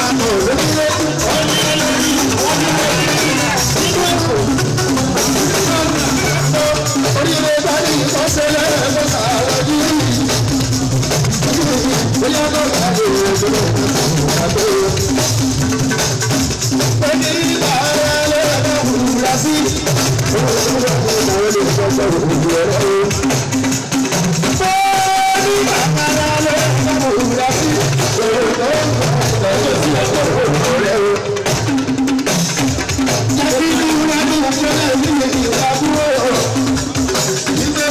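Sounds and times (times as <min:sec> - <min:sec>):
man singing into microphone: 0:00.0 - 0:04.6, 0:05.3 - 0:10.4, 0:11.4 - 0:15.2, 0:17.0 - 0:23.3, 0:24.5 - 0:31.5, 0:33.4 - 0:37.9
drums: 0:00.0 - 0:37.9.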